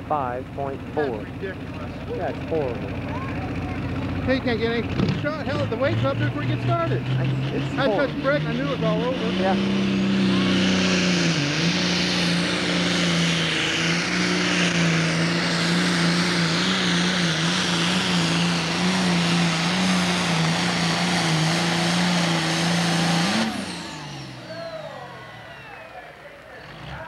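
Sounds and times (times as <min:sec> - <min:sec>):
diesel engine at full throttle: 0:00.0 - 0:27.0.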